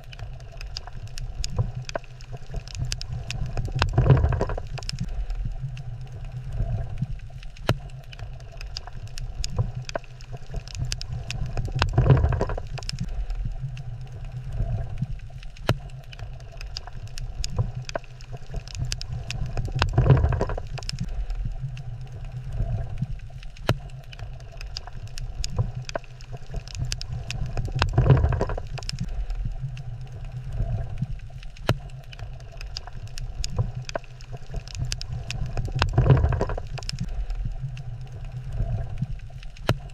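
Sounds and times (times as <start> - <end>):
sharp clicks underwater: 0.0 - 39.9
underwater rumble: 0.0 - 39.9.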